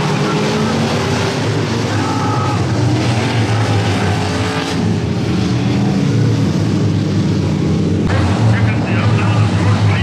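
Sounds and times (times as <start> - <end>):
race car engines running hard: 0.0 - 10.0.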